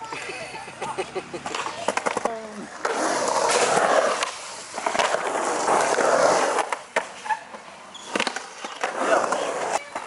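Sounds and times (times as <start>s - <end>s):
skateboard wheels rolling on concrete: 0.0s - 10.0s
skateboard clicks: 1.4s - 10.0s.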